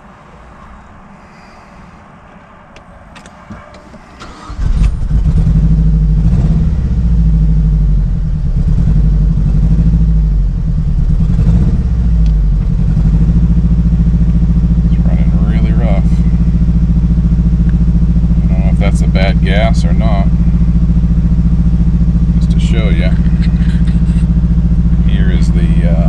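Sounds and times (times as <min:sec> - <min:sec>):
car engine starting and running rough: 0:01.0 - 0:26.0.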